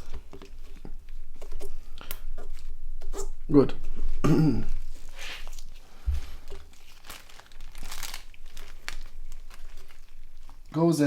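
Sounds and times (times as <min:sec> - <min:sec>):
plastic parts rustling and crinkling: 0:00.0 - 0:11.0.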